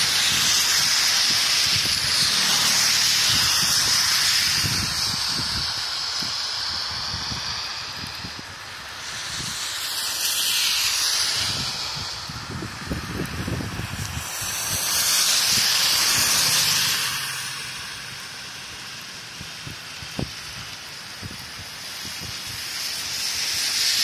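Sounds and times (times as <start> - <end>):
heavy rain on pavement: 0.0 - 24.0.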